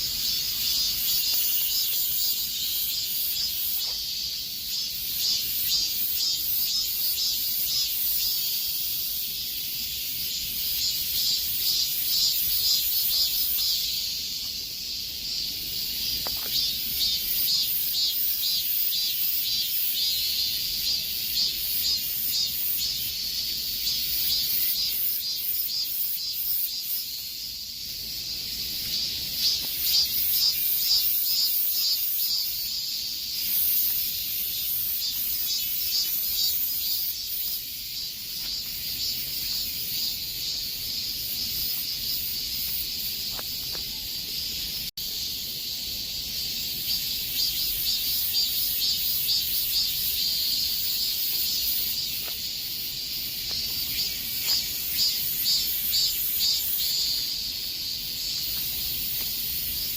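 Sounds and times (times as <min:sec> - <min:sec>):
cicadas singing: 0:00.0 - 0:59.9.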